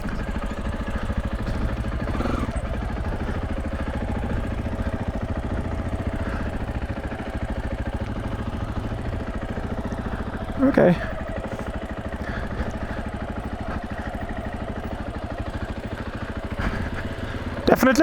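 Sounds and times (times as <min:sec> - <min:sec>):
dirt bike engine at low revs: 0:00.0 - 0:18.0.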